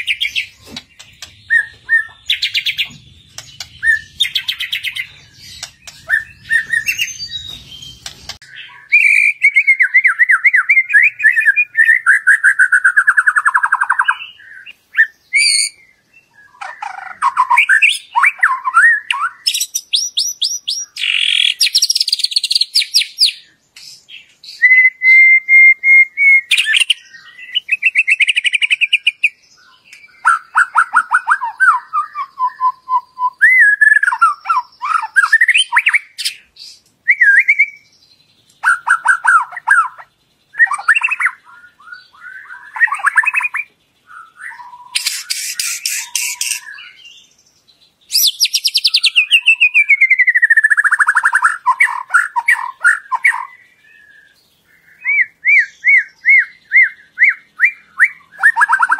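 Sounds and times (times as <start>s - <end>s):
songbird singing whistled phrases: 0.0s - 58.9s.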